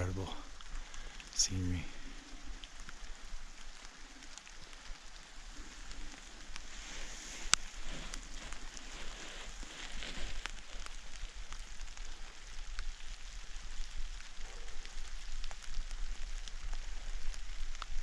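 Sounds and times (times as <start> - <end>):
steady hiss: 0.0 - 18.0
faint ticks: 0.2 - 18.0.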